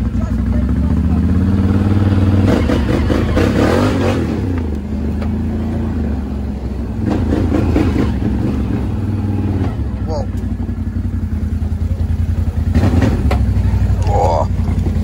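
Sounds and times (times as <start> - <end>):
atv engine running: 0.0 - 15.0
engine rattling: 0.0 - 15.0.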